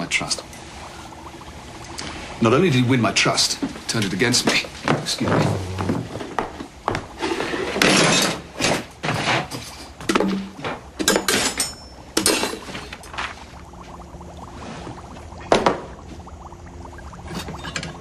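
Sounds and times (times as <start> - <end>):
low steady hum: 0.0 - 7.2, 9.7 - 18.0.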